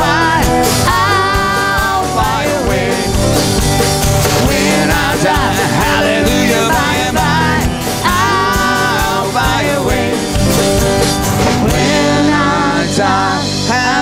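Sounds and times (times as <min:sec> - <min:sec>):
man singing: 0:00.0 - 0:03.4, 0:04.3 - 0:10.6, 0:11.4 - 0:14.0
steady drum beat: 0:00.0 - 0:14.0
strummed acoustic guitar: 0:00.0 - 0:14.0.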